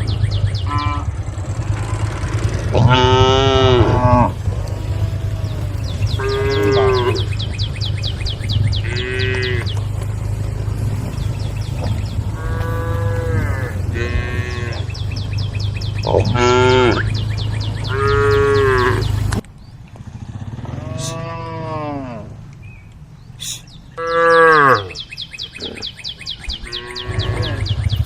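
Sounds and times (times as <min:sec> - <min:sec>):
cattle mooing: 0:00.6 - 0:19.3, 0:20.6 - 0:22.4, 0:24.0 - 0:25.0, 0:26.6 - 0:27.8.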